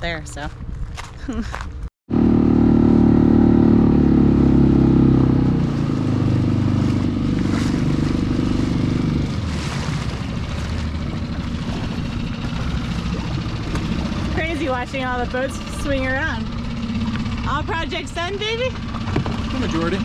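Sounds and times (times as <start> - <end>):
small boat motor running: 2.1 - 20.0.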